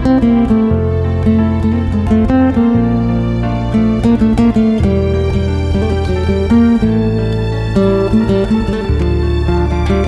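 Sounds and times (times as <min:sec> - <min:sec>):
guitar plucked and strummed: 0:00.0 - 0:10.0
steady bass line: 0:00.0 - 0:10.0.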